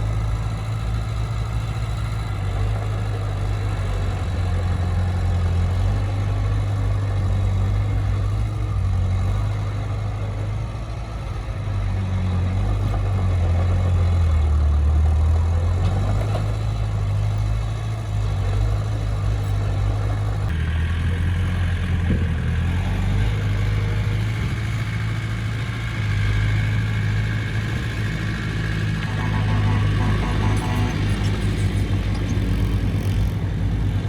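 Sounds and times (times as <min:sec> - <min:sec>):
heavy machinery diesel engine running: 0:00.0 - 0:34.0.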